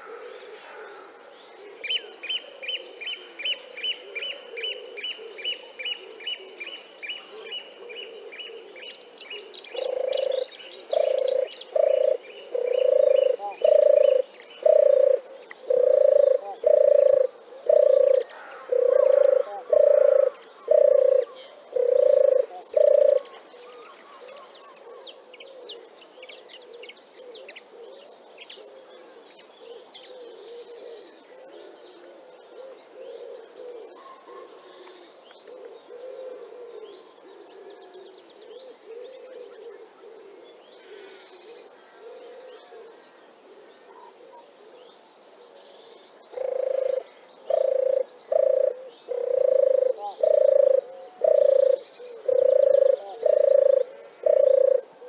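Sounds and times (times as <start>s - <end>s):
turtle dove purring coos: 0.0s - 45.6s, 46.3s - 55.0s
faint bird calls: 0.0s - 55.0s.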